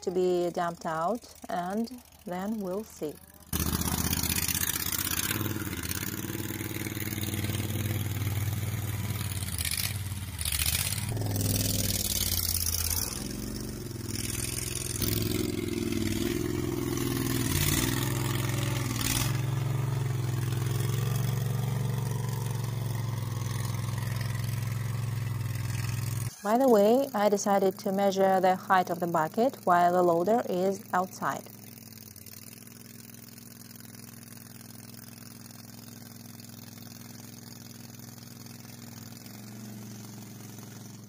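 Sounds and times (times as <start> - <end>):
loud engine without muffler: 0.0 - 41.0.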